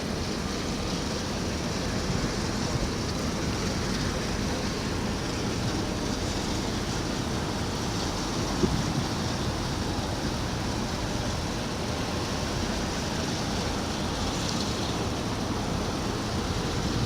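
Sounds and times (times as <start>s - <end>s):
sea water rushing: 0.0s - 17.0s
wind: 0.0s - 17.0s.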